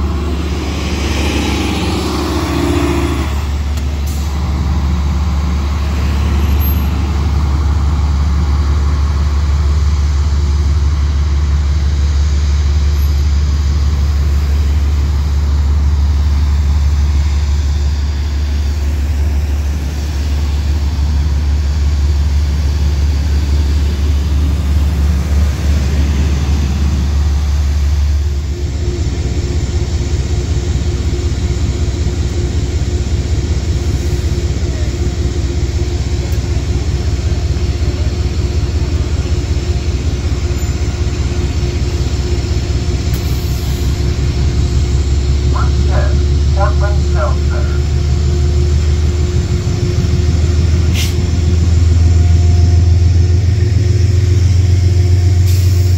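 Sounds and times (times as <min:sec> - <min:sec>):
heavy low rumble: 0:00.0 - 0:55.9
road traffic with buses and cars: 0:00.0 - 0:55.9.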